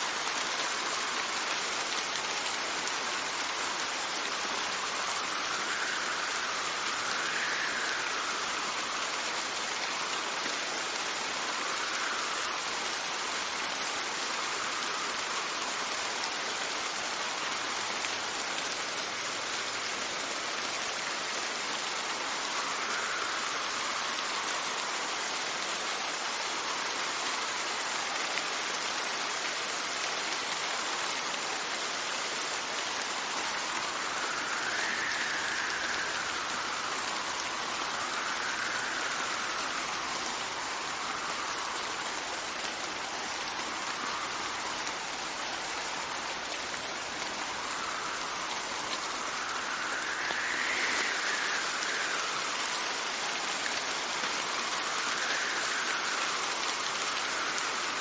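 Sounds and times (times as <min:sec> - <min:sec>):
steady rain hissing: 0:00.0 - 0:58.0
wind gusts: 0:00.0 - 0:58.0.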